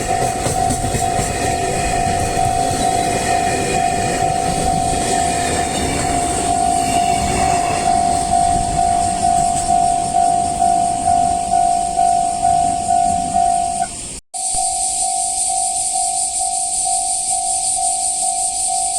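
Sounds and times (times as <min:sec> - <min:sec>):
level crossing alarm dinging: 0:00.0 - 0:18.9
train rumbling: 0:00.0 - 0:18.9.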